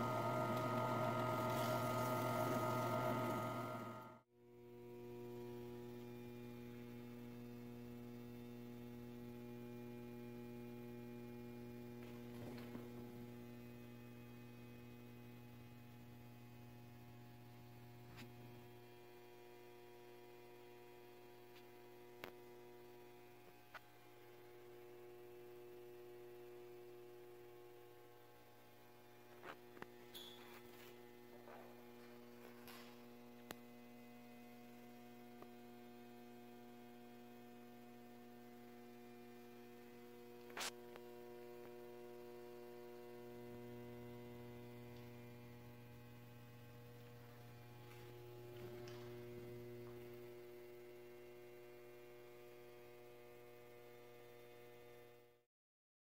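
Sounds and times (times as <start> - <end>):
faint mains hum: 0.0 - 55.4.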